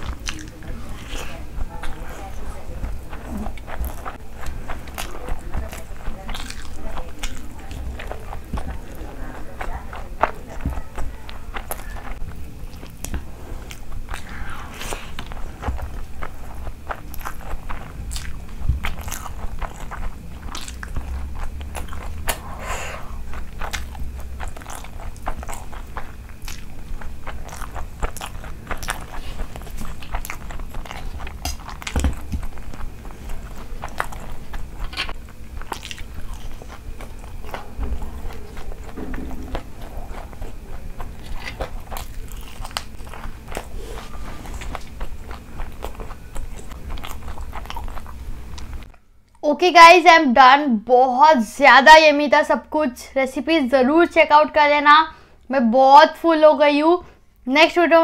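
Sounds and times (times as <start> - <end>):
close chewing and biting: 0.0 - 49.4.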